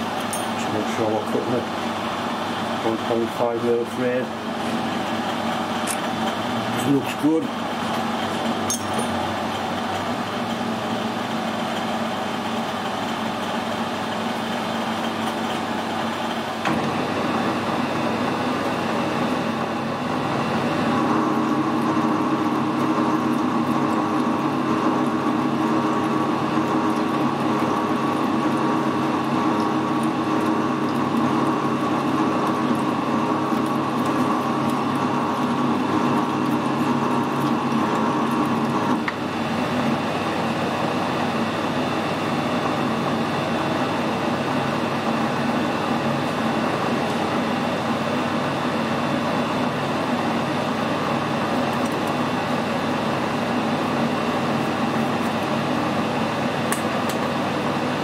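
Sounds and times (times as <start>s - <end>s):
metal lathe motor whining: 0.0s - 57.9s.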